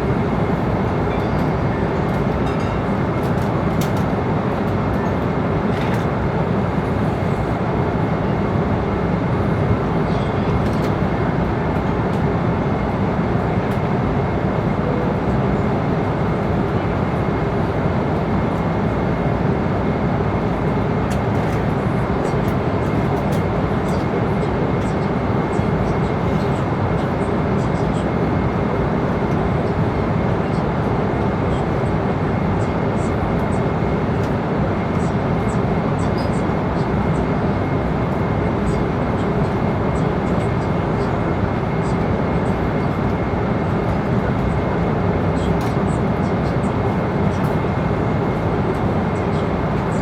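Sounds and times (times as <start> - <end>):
airliner cabin engine rush: 0.0 - 50.0.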